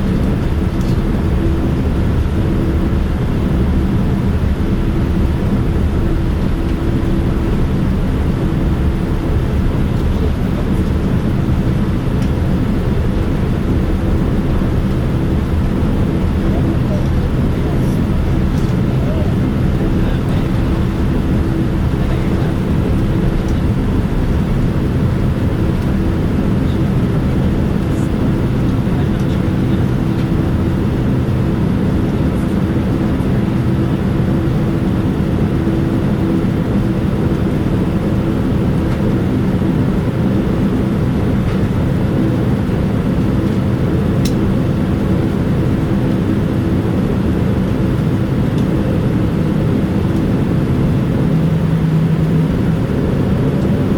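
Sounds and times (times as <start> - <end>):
aircraft cabin hum: 0.0 - 53.9
low drone: 0.0 - 53.9.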